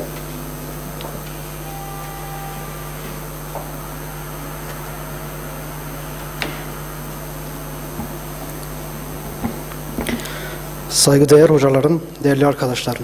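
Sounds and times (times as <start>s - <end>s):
sound system hum and hiss: 0.0s - 13.0s.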